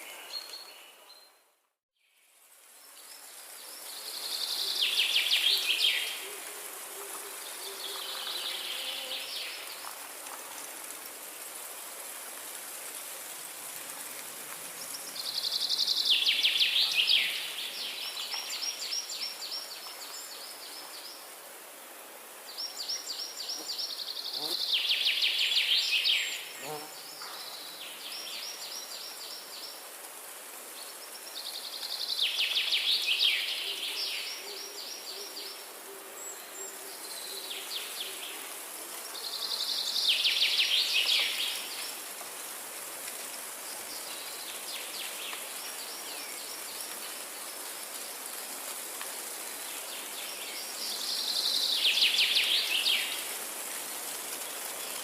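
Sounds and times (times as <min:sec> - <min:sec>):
faint high insect hiss: 0:02.0 - 0:55.0.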